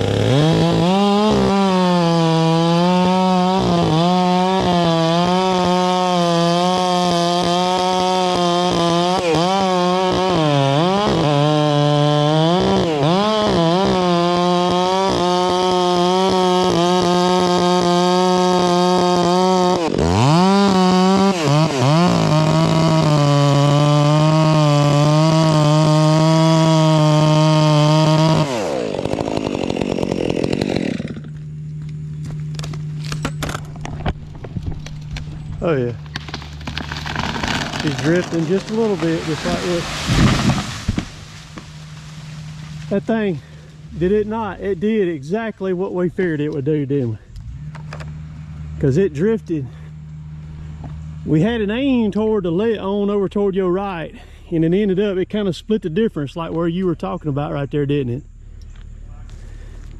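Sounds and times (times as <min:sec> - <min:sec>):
chainsaw cutting wood: 0:00.0 - 0:52.1.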